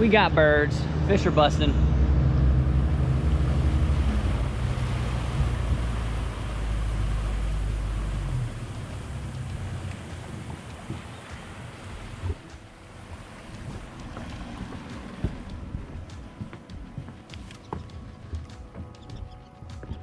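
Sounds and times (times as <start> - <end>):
outboard engine running: 0.0 - 20.0.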